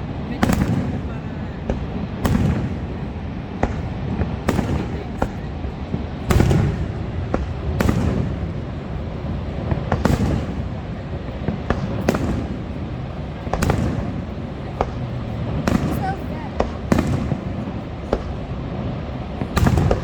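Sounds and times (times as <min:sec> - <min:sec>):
faint fireworks pops: 0:00.0 - 0:20.0
fireworks booming: 0:00.0 - 0:20.0
steady low rumble: 0:00.0 - 0:20.0.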